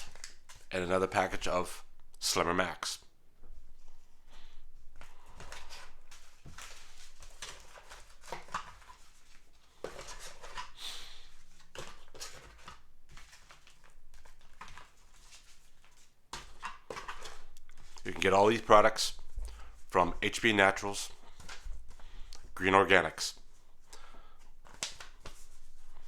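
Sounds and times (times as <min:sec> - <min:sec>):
packaging rustling: 0:00.0 - 0:00.7, 0:04.8 - 0:26.0
sachets and box knocking and scraping: 0:04.9 - 0:26.0.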